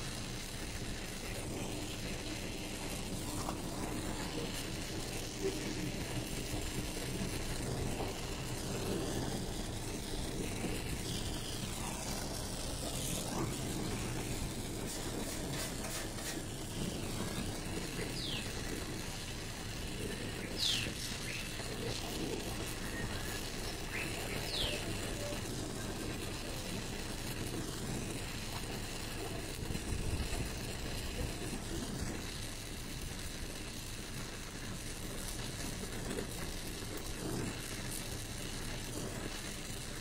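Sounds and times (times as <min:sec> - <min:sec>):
gas torch flame hissing: 0:00.0 - 0:40.0.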